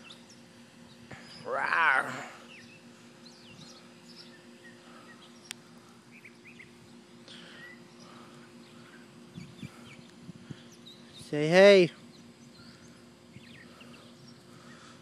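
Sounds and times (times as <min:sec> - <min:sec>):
faint bird chirps: 0:00.0 - 0:15.0
steady low hum: 0:00.0 - 0:15.0.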